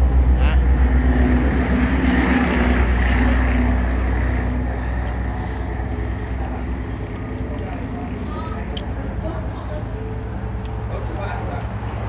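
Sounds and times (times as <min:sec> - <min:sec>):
motor vehicle running: 0:00.0 - 0:12.0.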